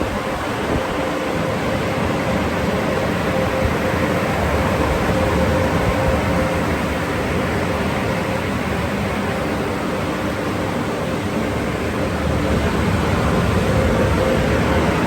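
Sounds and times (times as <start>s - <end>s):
car wash spray and machinery: 0.0s - 15.0s.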